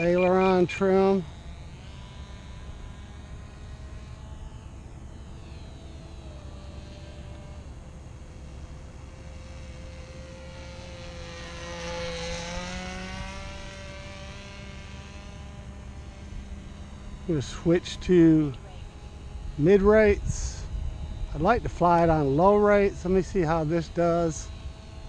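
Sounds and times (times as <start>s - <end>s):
model airplane engine drone: 0.0s - 25.0s.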